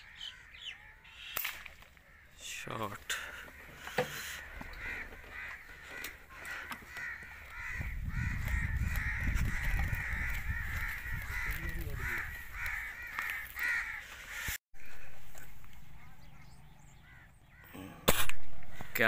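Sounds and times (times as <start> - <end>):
crows cawing: 0.0 - 17.8.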